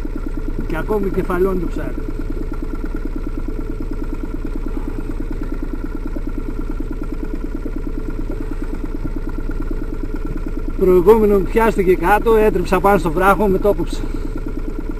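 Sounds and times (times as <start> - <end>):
outboard motor idling: 0.0 - 14.9.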